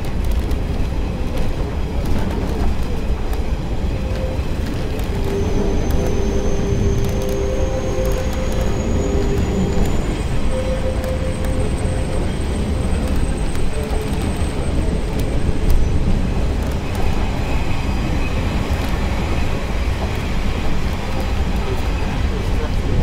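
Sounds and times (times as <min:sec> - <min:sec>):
train rumbling and rattling: 0:00.0 - 0:23.0
wheels clicking on track: 0:00.0 - 0:23.0.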